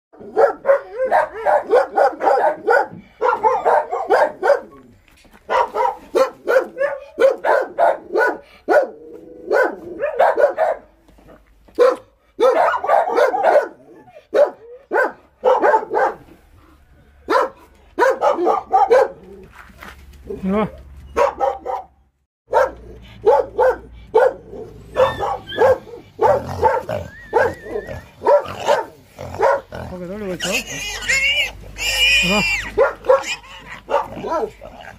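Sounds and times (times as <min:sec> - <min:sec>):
dogs barking: 0:00.2 - 0:11.0, 0:11.7 - 0:16.4, 0:17.2 - 0:19.5, 0:21.1 - 0:34.9.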